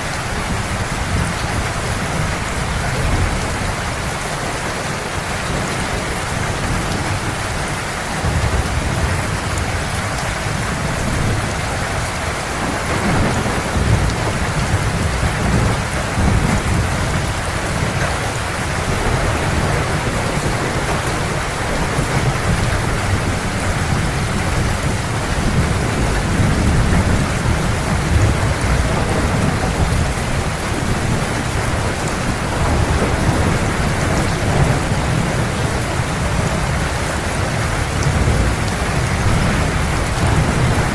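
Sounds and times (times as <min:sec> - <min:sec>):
heavy rain falling: 0:00.0 - 0:40.9
rolling thunder rumble: 0:05.2 - 0:40.9.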